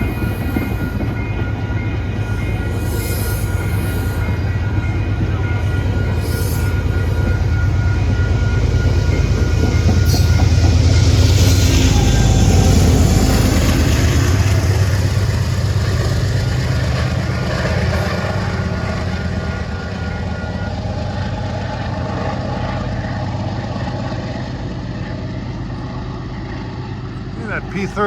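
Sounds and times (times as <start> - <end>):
diesel locomotive accelerating: 0.0 - 28.0.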